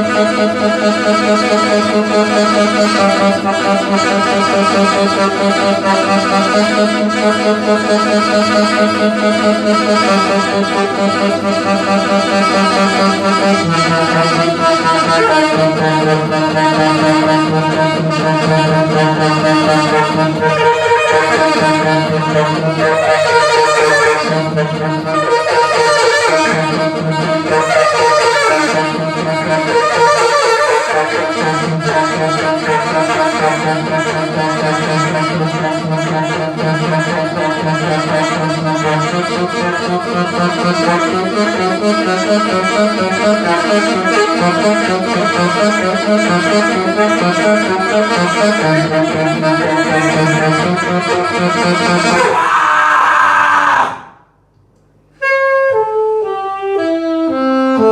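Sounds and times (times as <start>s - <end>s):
live instrumental band music: 0.1s - 52.2s.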